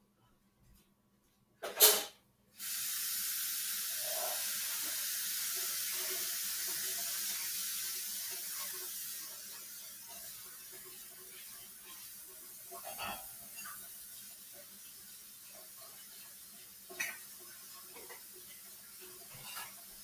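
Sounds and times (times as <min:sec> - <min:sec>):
steady hiss: 0:02.6 - 0:20.0.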